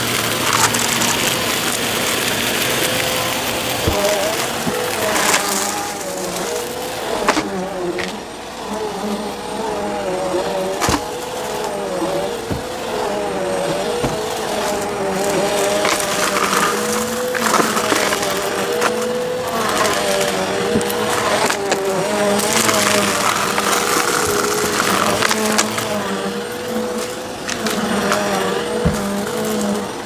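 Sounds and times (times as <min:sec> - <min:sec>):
debris crackling in vacuum: 0:00.0 - 0:30.0
vacuum cleaner motor whine: 0:00.0 - 0:30.0.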